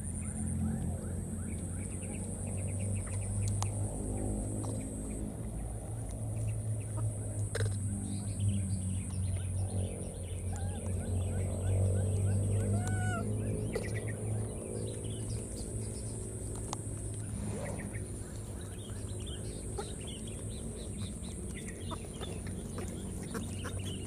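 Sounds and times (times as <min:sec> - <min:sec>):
low hum: 0:00.0 - 0:24.0
small birds chirping: 0:00.0 - 0:24.0.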